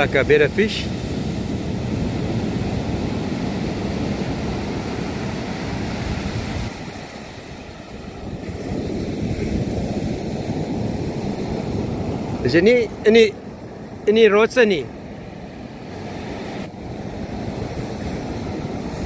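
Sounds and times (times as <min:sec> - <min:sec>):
wind noise on microphone: 0:00.0 - 0:14.2, 0:14.9 - 0:19.0
ocean surf breaking: 0:00.0 - 0:19.0.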